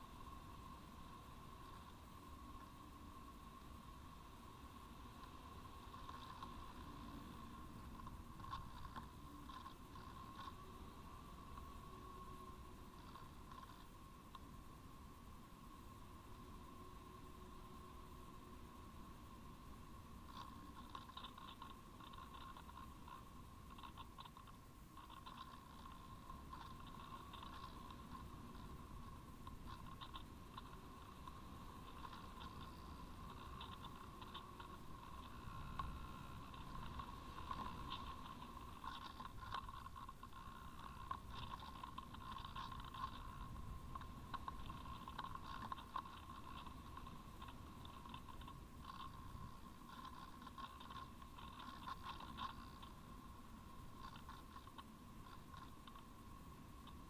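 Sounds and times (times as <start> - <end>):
airflow rumble and crackle: 0.0 - 57.0
thin whine: 0.0 - 57.0.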